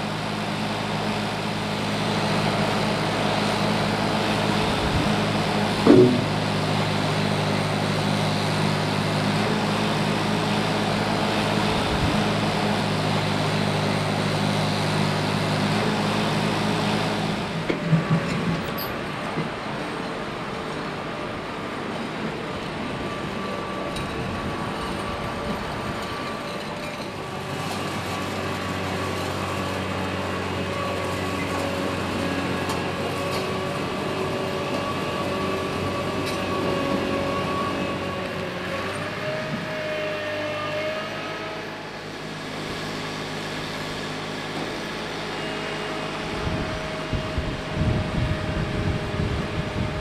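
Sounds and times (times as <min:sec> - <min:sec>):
compactor machine whining: 0:00.0 - 0:50.0.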